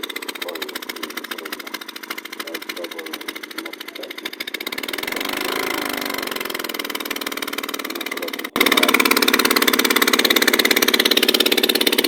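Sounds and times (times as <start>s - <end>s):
misfiring engine pulsing: 0.0s - 12.0s.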